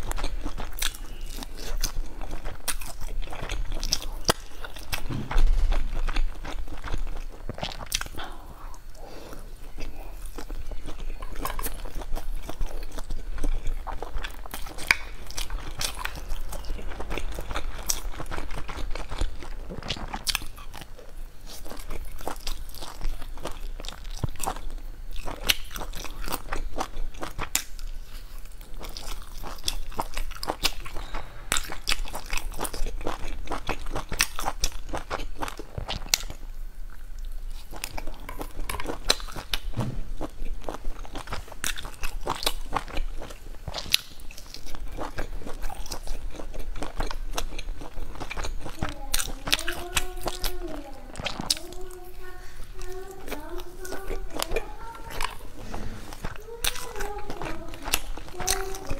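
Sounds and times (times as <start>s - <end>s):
crunchy chewing of fried food: 0.0s - 58.9s.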